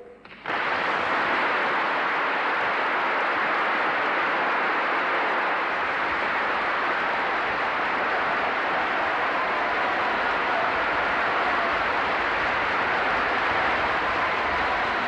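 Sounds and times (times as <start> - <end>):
large crowd applauding: 0.0 - 15.0.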